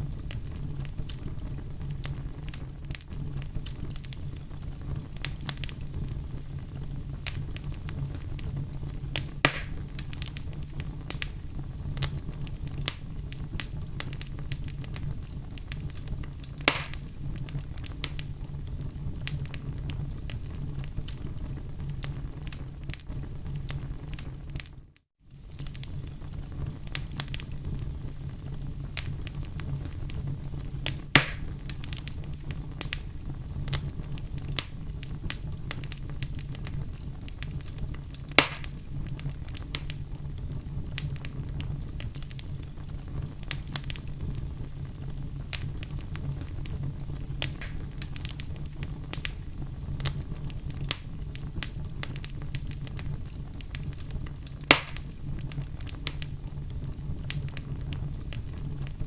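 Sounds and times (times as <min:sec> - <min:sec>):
campfire crackling: 0:00.0 - 0:59.0
loud fire pops: 0:00.0 - 0:59.0.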